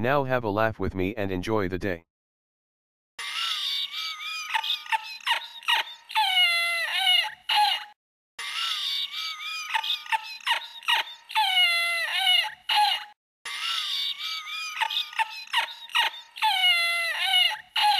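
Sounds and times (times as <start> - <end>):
squeaky cartoon laughing: 3.2 - 17.9.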